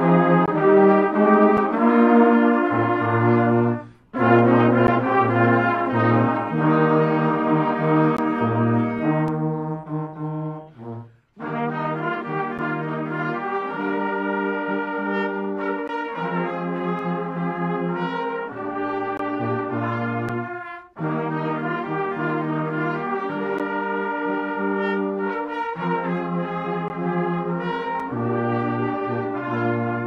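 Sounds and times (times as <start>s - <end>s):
brass ensemble playing chords: 0.0s - 30.0s.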